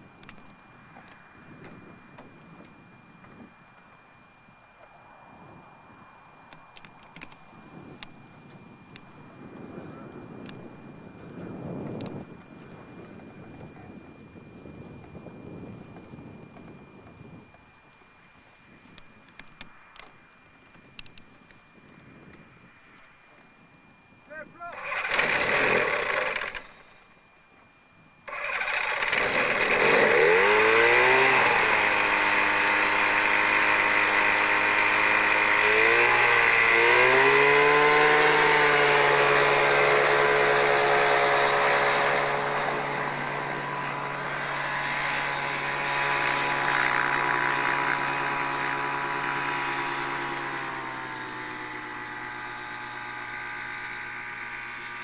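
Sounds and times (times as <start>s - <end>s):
microlight engine and propeller: 0.0s - 55.0s.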